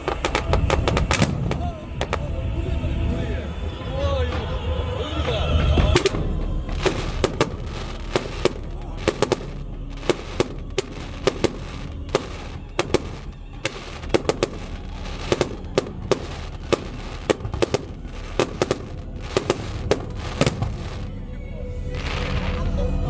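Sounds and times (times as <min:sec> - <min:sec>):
fireworks bangs: 0:00.0 - 0:21.3
steady low rumble: 0:00.0 - 0:23.0.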